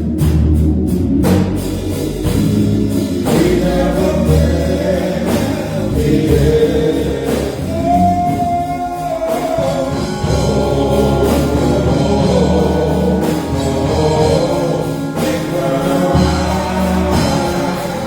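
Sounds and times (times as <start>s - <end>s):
gospel song with instruments: 0.0s - 18.0s.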